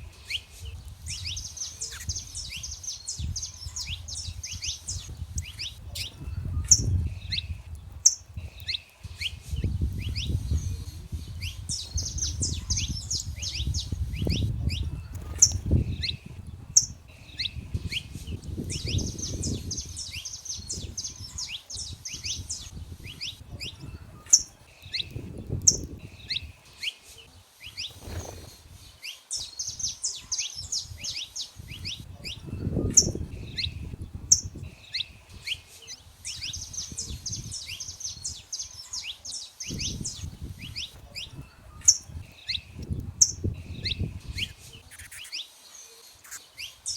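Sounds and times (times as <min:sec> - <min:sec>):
finches twittering: 0:00.0 - 0:46.9.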